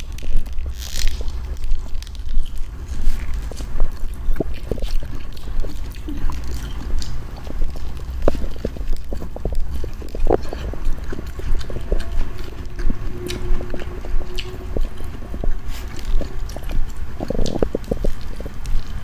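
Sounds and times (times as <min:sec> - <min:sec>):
chewing corn on the cob: 0:00.0 - 0:19.0
low rumble: 0:00.0 - 0:19.0.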